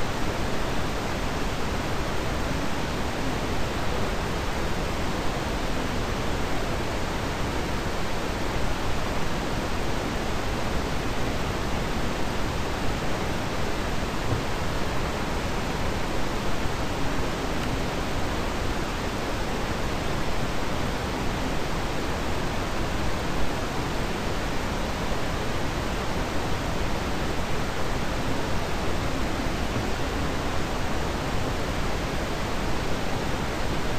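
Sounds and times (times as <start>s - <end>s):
microphone hiss: 0.0s - 33.9s.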